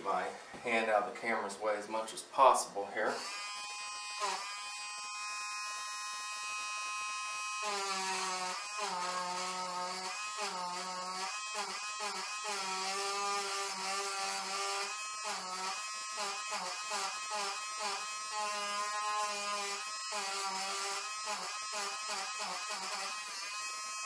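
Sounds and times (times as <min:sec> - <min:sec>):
electric eraser motor whirring: 0:03.2 - 0:24.0.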